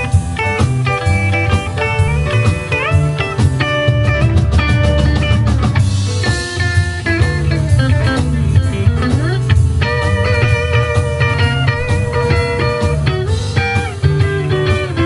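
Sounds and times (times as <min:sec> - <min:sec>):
drum kit: 0:00.0 - 0:15.0
keyboards: 0:00.0 - 0:15.0
lead line with bending notes: 0:00.0 - 0:15.0
upright bass: 0:00.0 - 0:15.0.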